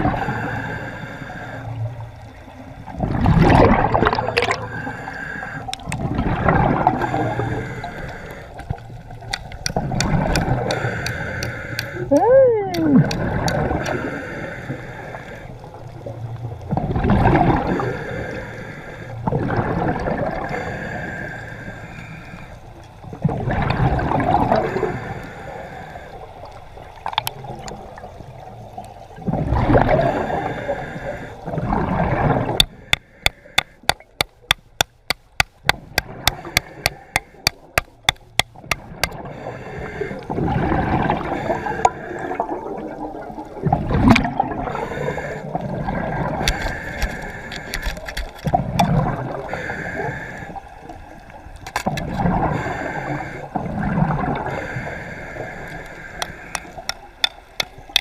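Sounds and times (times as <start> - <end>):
water sloshing and gurgling: 0.0 - 58.0.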